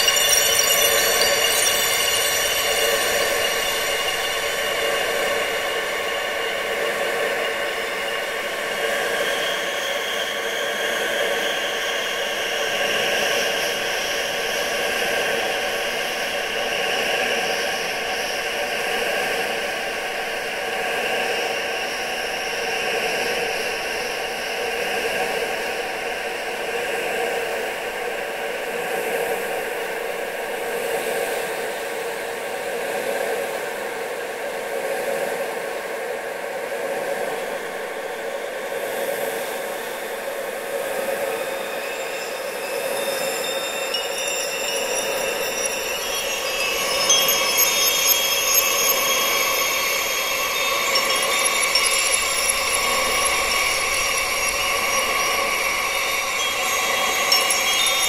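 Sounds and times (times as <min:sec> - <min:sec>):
wind-like rushing hiss: 0:00.0 - 0:58.0.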